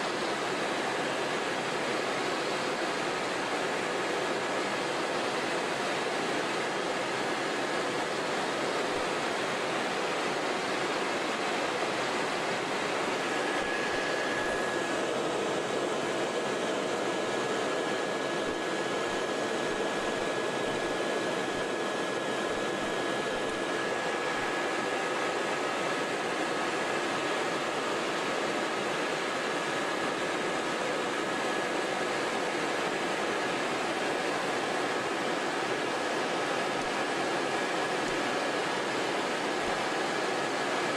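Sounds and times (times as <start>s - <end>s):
faint steady whine: 0.0s - 40.9s.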